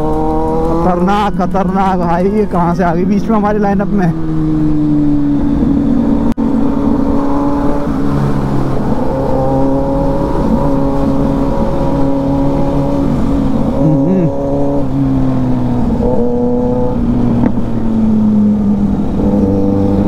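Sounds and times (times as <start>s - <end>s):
motorcycle engines cruising: 0.0s - 20.0s.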